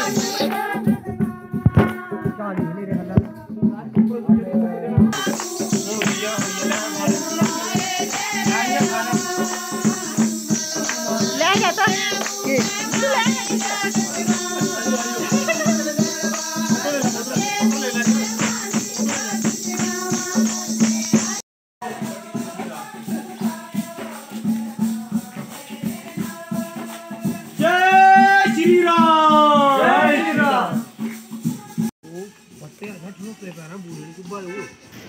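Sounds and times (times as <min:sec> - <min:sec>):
devotional singing: 0:00.0 - 0:31.9
shaken rattle percussion: 0:00.0 - 0:35.0.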